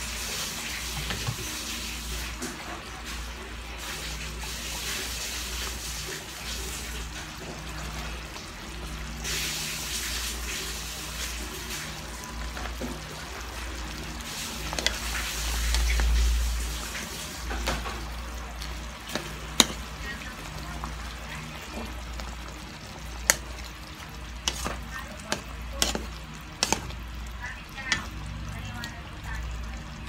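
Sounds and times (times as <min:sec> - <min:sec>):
stew sizzling in a frying pan: 0:00.0 - 0:30.0.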